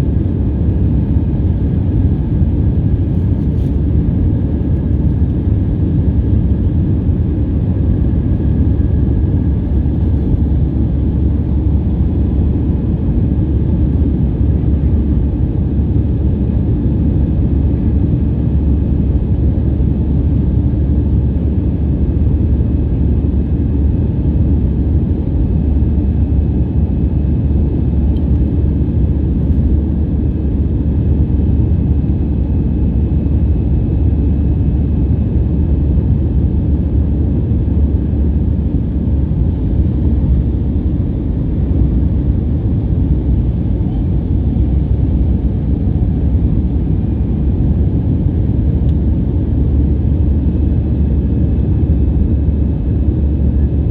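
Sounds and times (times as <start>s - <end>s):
jet engines rumbling with whine: 0.0s - 53.9s.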